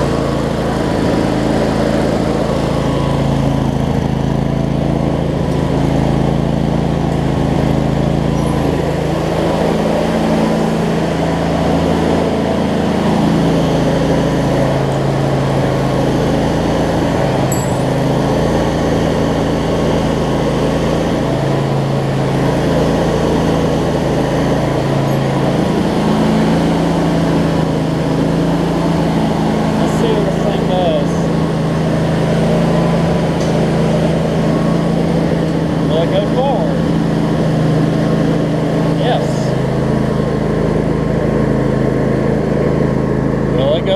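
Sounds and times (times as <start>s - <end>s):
riding mower engine running: 0.0s - 43.9s.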